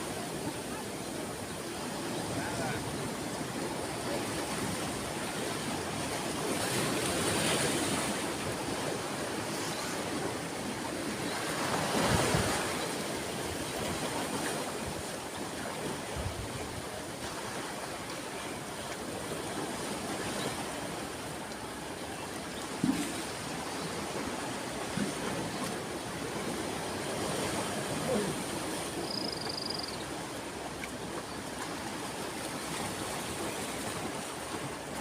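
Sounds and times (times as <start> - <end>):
sea waves breaking: 0.0 - 35.0.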